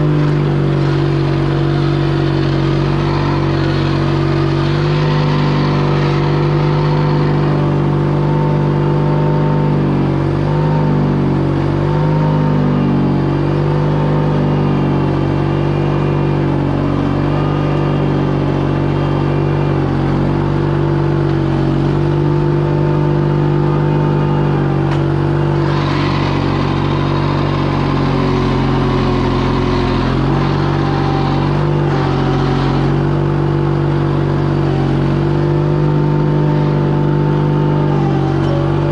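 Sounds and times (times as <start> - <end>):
drive belt squalling: 0.0 - 8.7, 15.3 - 38.9
engine running under load: 0.0 - 38.9.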